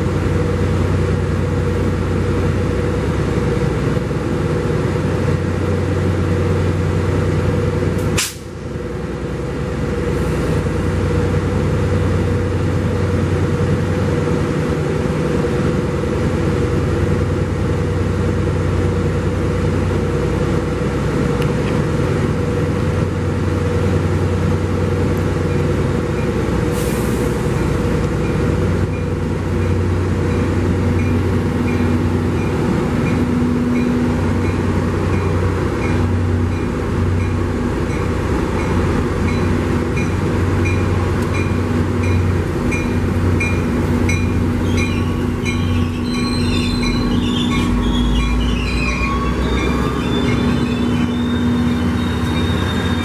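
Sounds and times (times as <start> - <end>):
diesel locomotive engines humming: 0.0 - 53.0.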